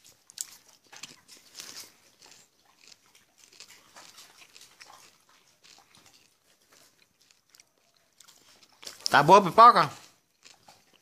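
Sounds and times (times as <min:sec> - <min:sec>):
popcorn being chewed: 0:00.0 - 0:11.0.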